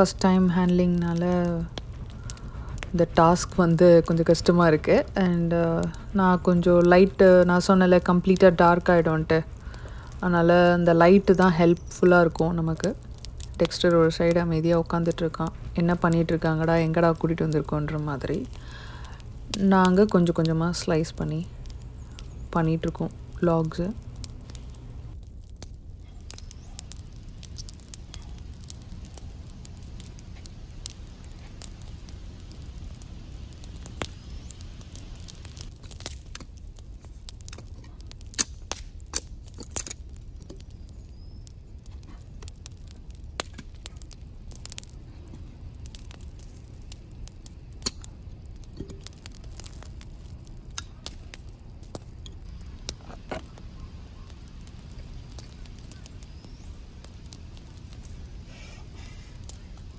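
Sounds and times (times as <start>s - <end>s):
campfire crackling and popping: 0.0s - 59.9s
steady low rumble: 0.0s - 59.9s.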